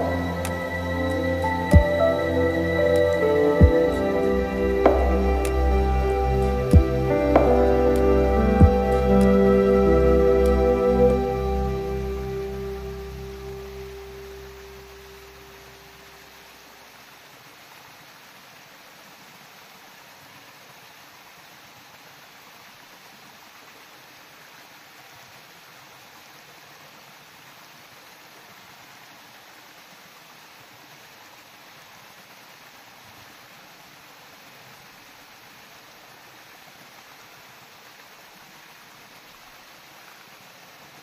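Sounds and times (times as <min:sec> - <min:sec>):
small waterfall rushing: 0:00.0 - 0:41.0.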